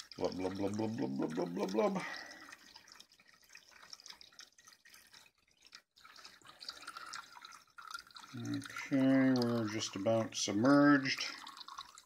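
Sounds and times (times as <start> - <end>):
liquid trickling and dripping: 0.0 - 12.0.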